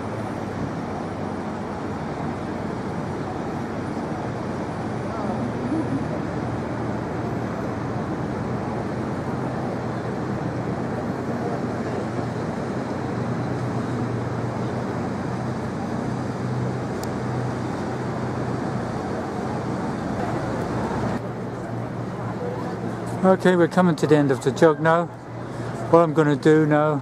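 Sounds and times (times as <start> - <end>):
distant traffic rumble: 0.0 - 27.0.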